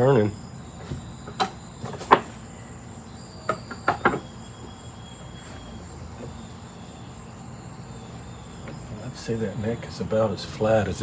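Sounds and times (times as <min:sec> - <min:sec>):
faint high-pitched tone: 0:00.0 - 0:11.0.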